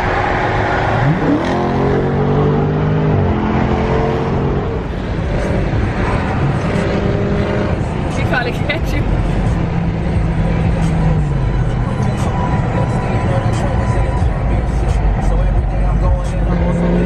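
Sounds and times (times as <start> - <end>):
car engine accelerating hard: 0.0 - 17.0
road noise: 0.0 - 17.0.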